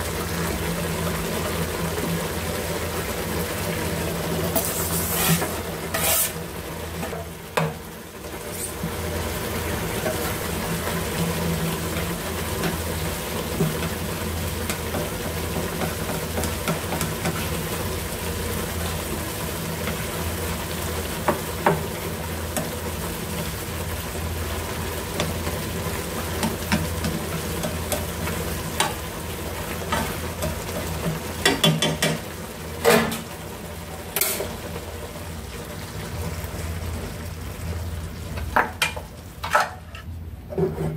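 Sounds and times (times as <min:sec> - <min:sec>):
soup sizzling and bubbling: 0:00.0 - 0:40.9.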